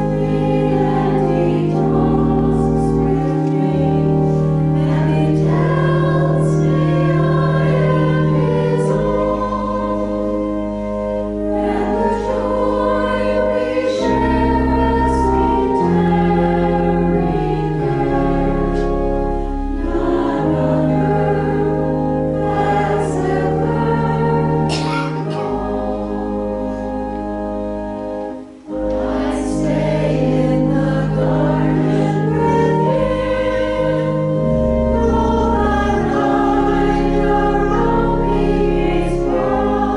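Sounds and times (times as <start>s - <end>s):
organ accompaniment: 0.0s - 39.9s
voices singing a hymn: 0.0s - 39.9s.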